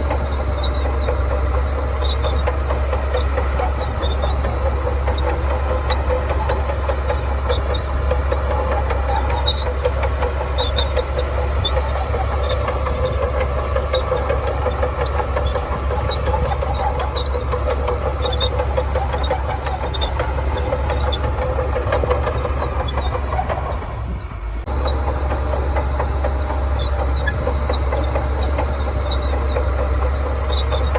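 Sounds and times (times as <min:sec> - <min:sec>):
heavy diesel engine under load: 0:00.0 - 0:30.9.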